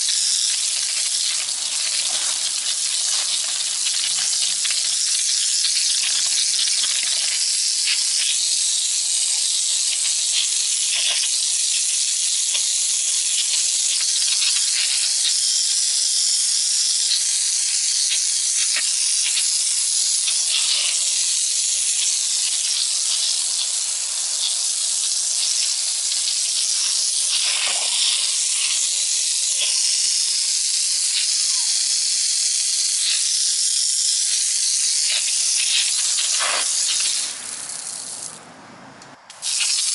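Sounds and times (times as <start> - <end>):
hose spraying water on brick wall: 0.0 - 38.4, 39.2 - 39.9.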